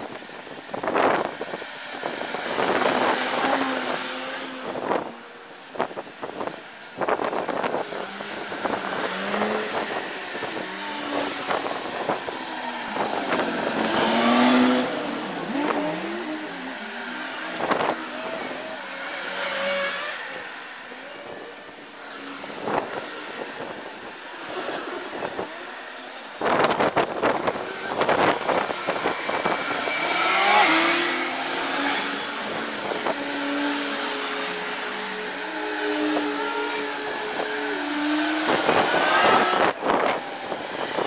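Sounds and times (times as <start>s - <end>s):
cars driving past: 0.1s - 41.0s.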